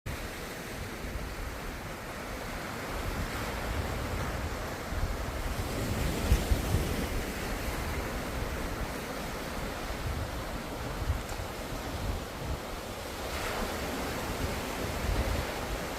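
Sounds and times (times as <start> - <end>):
ocean waves breaking: 0.1 - 15.9.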